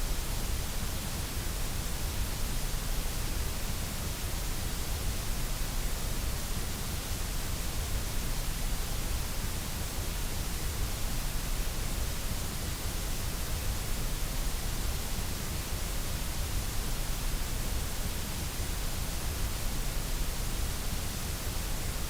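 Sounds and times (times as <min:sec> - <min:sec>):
white noise hiss: 0:00.0 - 0:22.0.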